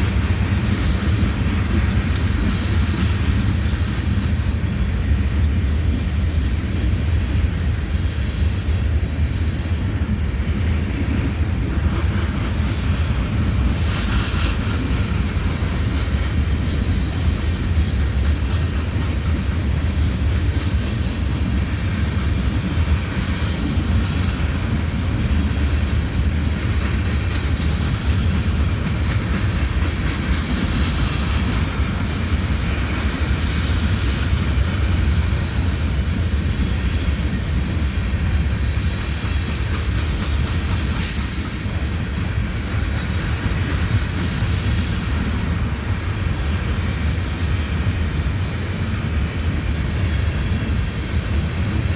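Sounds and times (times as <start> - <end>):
train wheels rumbling on track: 0.0 - 51.9.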